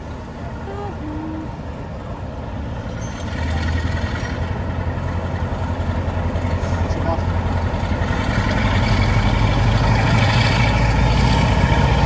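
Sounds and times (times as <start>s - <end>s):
diesel engine throbbing: 0.0s - 12.0s.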